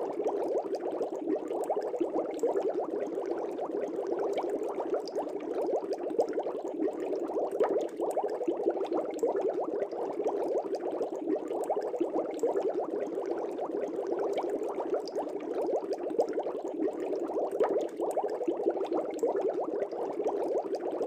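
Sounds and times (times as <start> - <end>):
aquarium air bubbles: 0.0 - 21.0.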